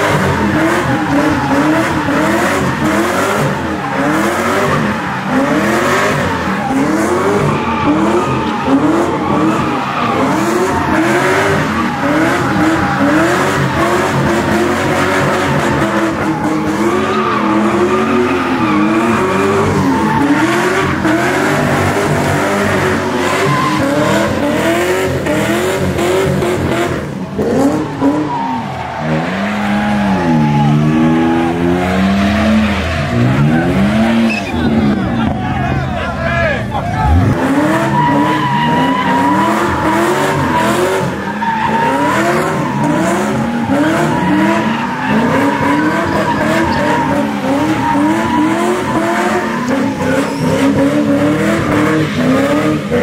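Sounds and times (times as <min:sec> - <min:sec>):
car engines revving: 0:00.0 - 0:53.0
tires screeching: 0:00.0 - 0:53.0.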